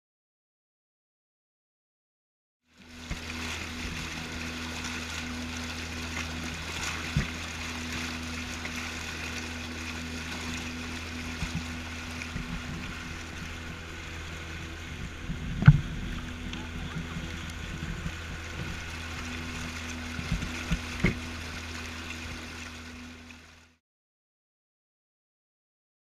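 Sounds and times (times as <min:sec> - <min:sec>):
motorboat engine hum: 0:02.6 - 0:23.8
wake splashing along hull: 0:02.7 - 0:23.8.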